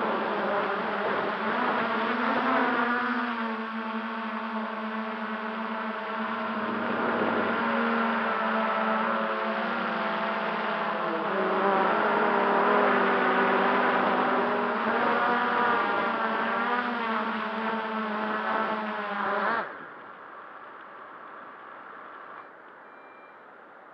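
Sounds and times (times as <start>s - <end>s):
drone motors whining: 0.0s - 23.5s.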